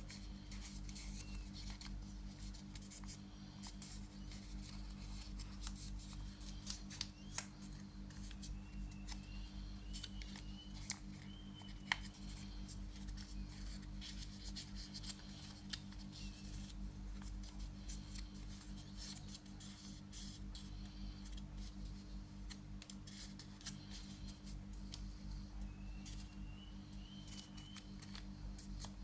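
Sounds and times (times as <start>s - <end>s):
paper crinkling and snapping: 0.0s - 25.1s, 27.1s - 29.0s
steady low hum: 0.0s - 29.0s.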